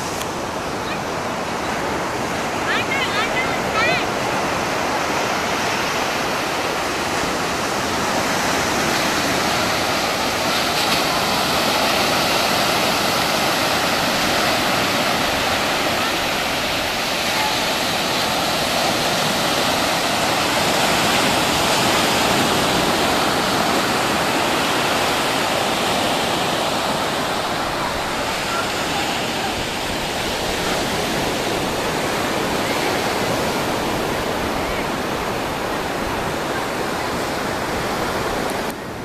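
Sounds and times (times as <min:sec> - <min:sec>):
breaking waves roar: 0:00.0 - 0:39.0.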